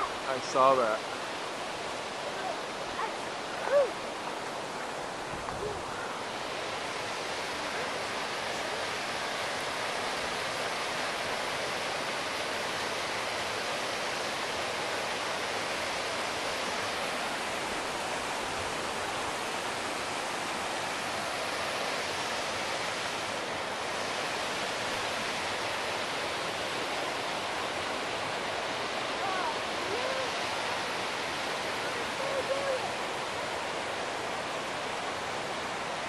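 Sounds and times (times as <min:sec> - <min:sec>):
creek rushing over boulders: 0:00.0 - 0:36.0.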